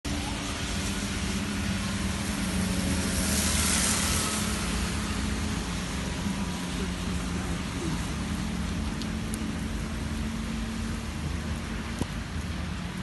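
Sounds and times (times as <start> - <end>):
low engine hum: 0.1 - 13.0
rain hiss: 0.1 - 13.0.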